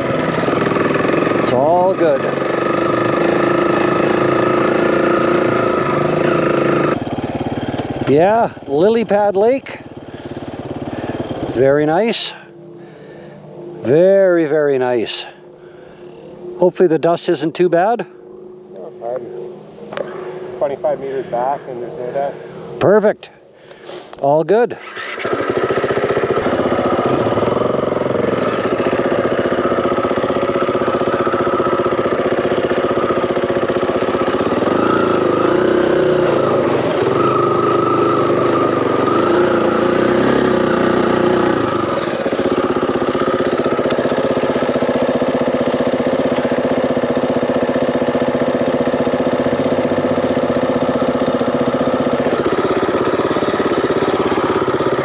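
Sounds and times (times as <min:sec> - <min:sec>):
dirt bike engine revving: 0:00.0 - 0:23.1, 0:24.7 - 0:55.0.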